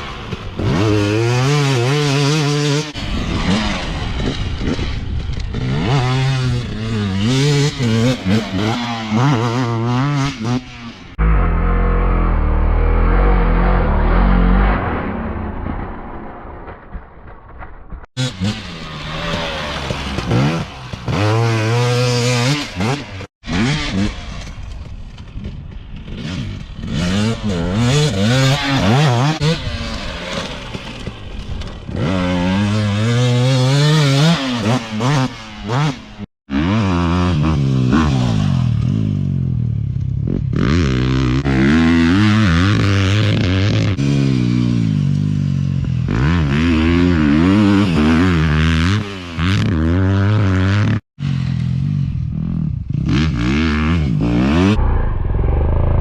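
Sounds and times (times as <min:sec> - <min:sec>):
dirt bike engine revving: 0:00.0 - 0:16.2, 0:18.2 - 0:24.7, 0:26.0 - 0:56.0.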